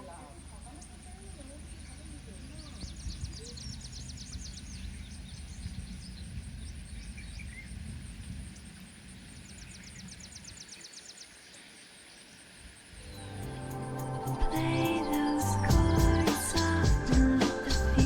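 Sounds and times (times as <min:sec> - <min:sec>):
birds trilling: 0:00.0 - 0:18.0.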